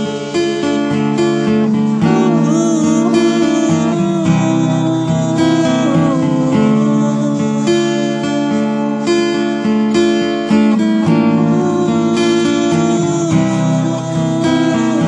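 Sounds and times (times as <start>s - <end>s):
wordless vocal line: 0.0s - 9.7s, 10.7s - 15.0s
acoustic guitar strumming chords: 0.0s - 15.0s.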